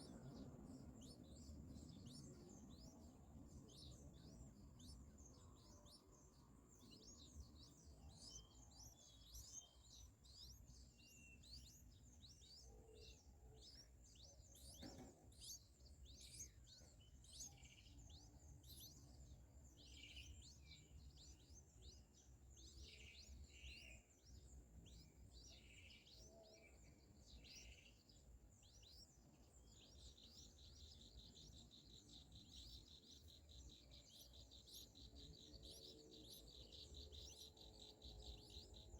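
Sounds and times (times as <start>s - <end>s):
nestlings chirping: 0.0s - 38.9s.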